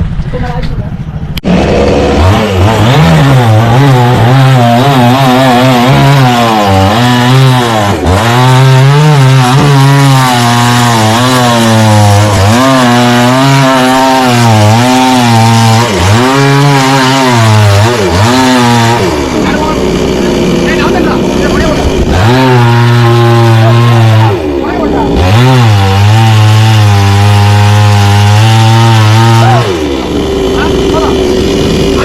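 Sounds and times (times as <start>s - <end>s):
chainsaw cutting wood: 1.4s - 32.0s.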